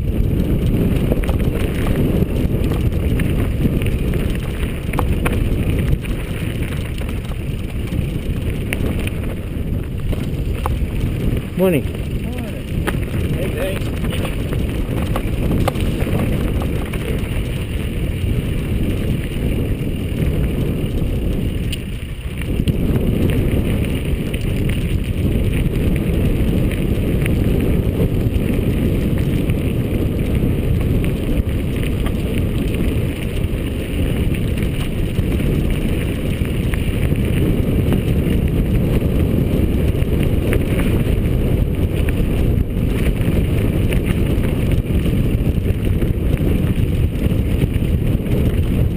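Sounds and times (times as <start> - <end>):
bike clicks and rattles: 0.0 - 48.9
wind buffeting microphone: 0.0 - 48.9.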